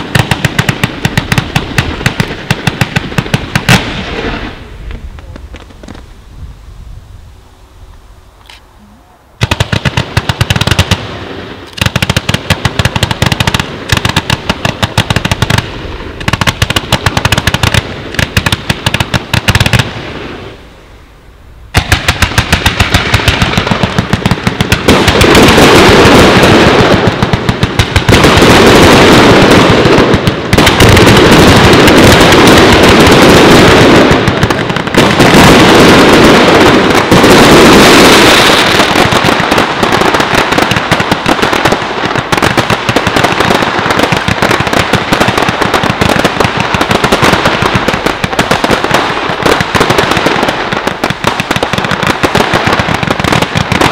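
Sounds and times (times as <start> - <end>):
fireworks shots and bangs: 0.0 - 6.2, 9.4 - 20.6, 21.7 - 53.9.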